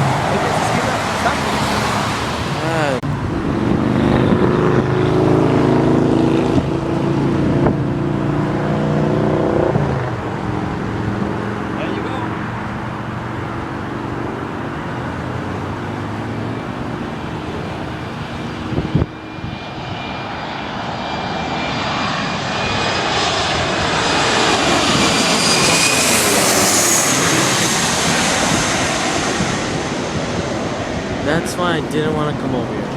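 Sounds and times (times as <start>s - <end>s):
jet airliner engine roar: 0.0s - 32.9s
turbine whine: 0.0s - 32.9s.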